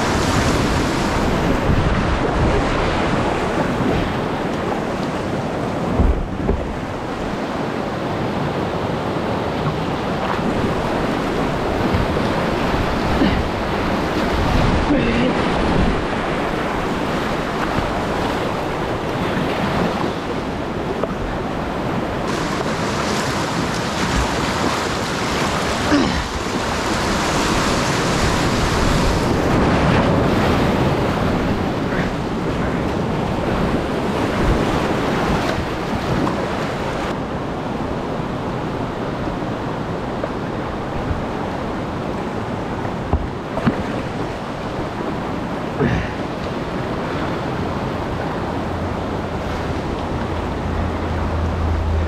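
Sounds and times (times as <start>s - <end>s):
whitewater rapids roaring: 0.0s - 52.0s.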